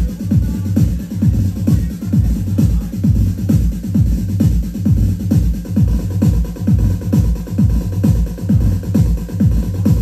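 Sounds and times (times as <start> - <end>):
four-on-the-floor kick drum: 0.0 - 10.0.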